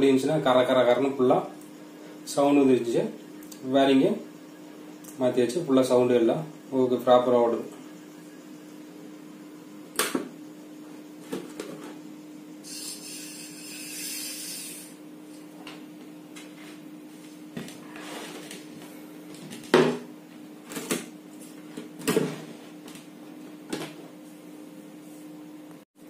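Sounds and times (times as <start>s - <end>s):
steady low hum: 0.0s - 25.8s.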